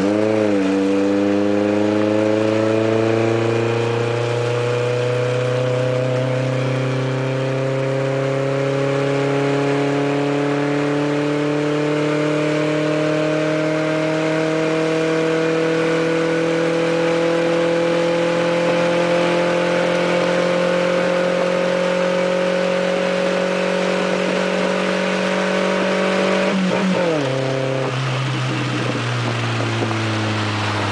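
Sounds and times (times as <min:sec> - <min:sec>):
engine revving with rumbling exhaust: 0:00.0 - 0:30.9.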